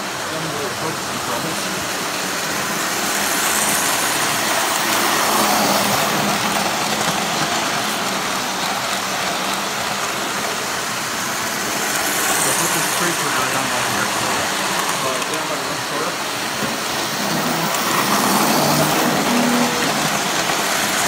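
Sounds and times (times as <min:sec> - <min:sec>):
model train rattling on track: 0:00.0 - 0:21.0.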